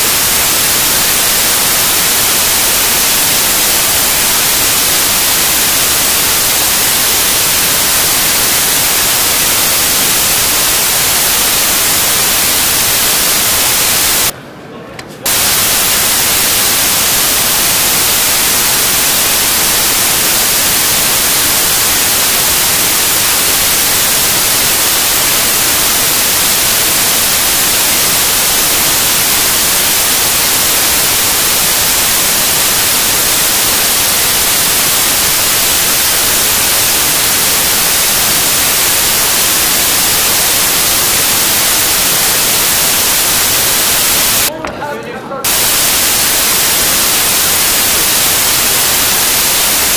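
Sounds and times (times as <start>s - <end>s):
loud static hiss: 0.0s - 14.4s, 15.2s - 44.6s, 45.4s - 49.9s.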